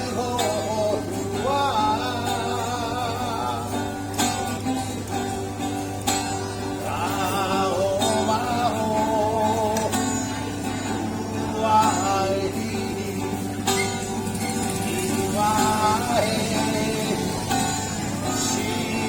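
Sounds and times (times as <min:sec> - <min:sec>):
man singing with vibrato: 0:00.0 - 0:05.6, 0:06.3 - 0:19.0
plucked string accompaniment: 0:00.0 - 0:19.0.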